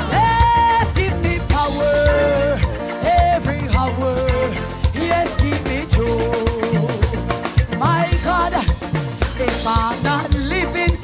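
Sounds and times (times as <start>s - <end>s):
bass guitar: 0.0s - 11.0s
drums: 0.0s - 11.0s
electric guitar: 0.0s - 11.0s.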